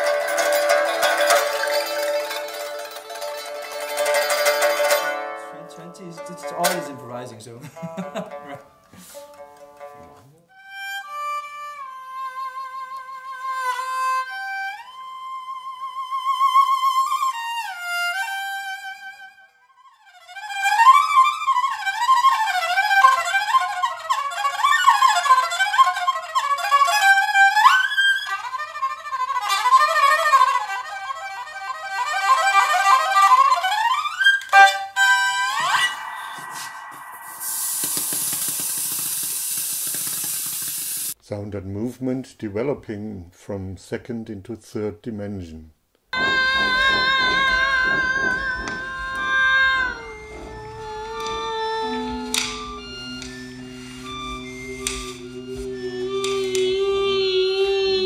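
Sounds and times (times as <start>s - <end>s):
bowed two-string fiddle melody: 0.0s - 37.0s, 46.2s - 58.0s.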